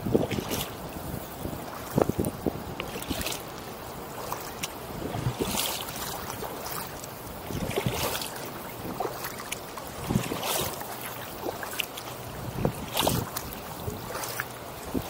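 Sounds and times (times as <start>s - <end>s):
paddle splashing in water: 0.0s - 15.0s
water drips: 0.0s - 15.0s.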